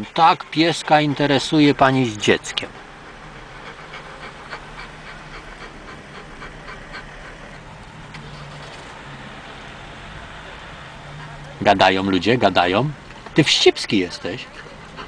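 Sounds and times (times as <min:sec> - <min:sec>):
dog panting: 0:00.0 - 0:09.1, 0:10.4 - 0:15.0.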